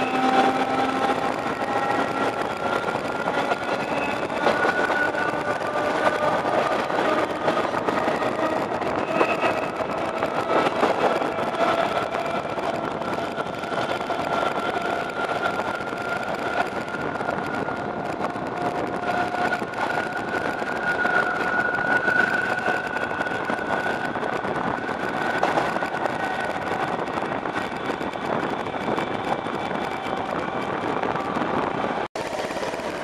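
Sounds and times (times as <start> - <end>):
train running noise: 0.0 - 33.0.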